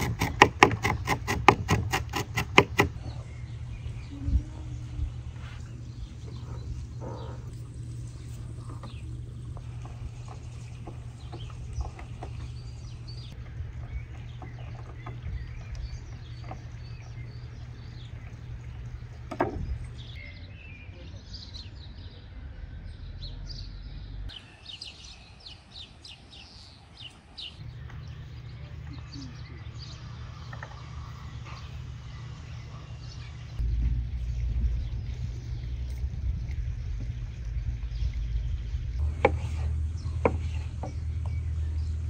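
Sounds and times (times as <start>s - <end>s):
small birds chirping: 0.0s - 42.0s
low outdoor rumble: 1.6s - 24.4s, 27.3s - 42.0s.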